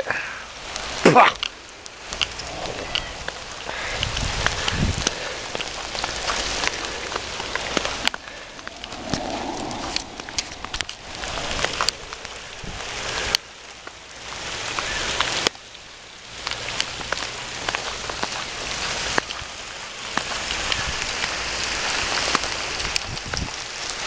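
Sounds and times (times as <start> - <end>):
hailstones pelting down: 0.0 - 24.0.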